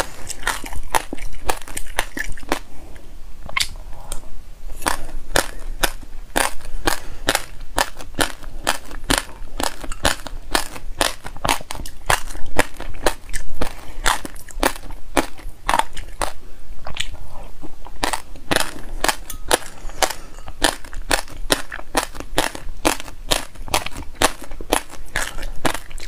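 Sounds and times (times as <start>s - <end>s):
seeds crunching while chewed: 0.0s - 2.7s, 4.8s - 26.0s.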